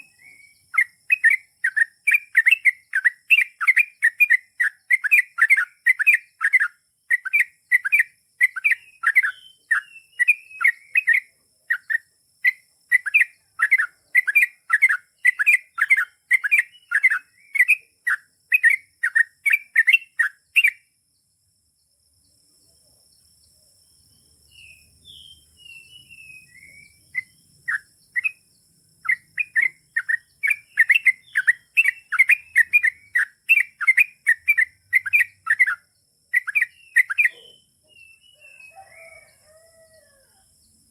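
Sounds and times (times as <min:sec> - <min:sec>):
bulbul chattering song: 0:00.0 - 0:20.9, 0:24.5 - 0:39.2.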